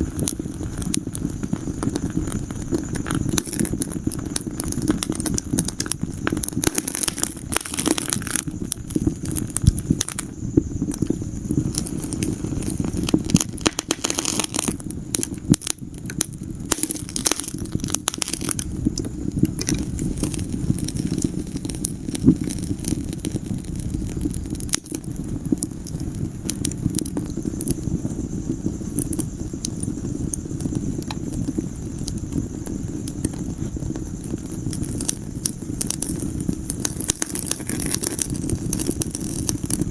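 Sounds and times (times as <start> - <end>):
fire popping and snapping: 0.0 - 39.9
low rumble of flames: 0.0 - 39.9.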